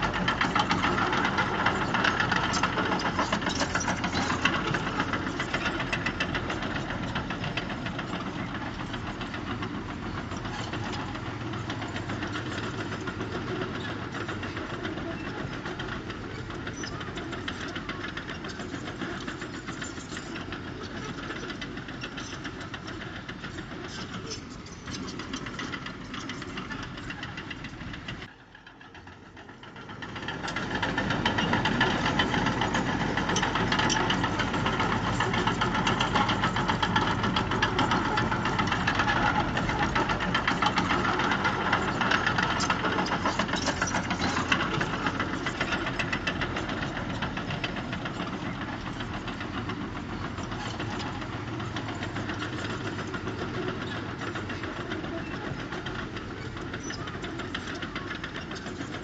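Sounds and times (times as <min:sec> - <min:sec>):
diesel engine clattering: 0:00.0 - 0:59.0.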